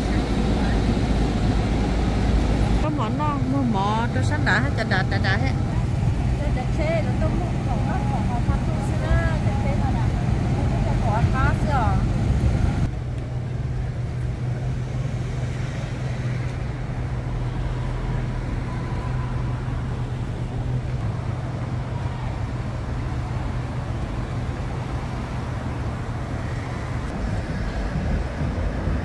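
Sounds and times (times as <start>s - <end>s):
cars passing: 0.0s - 29.0s
steady low hum: 0.0s - 29.0s.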